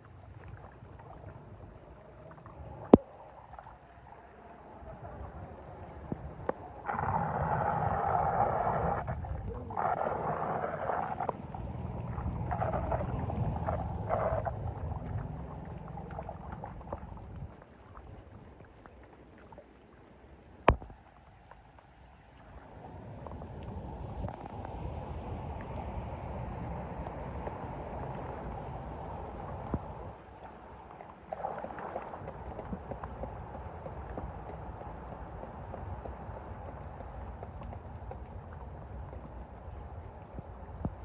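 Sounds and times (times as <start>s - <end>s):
rush of water: 0.0s - 41.0s
water splashing and sloshing: 0.0s - 41.0s.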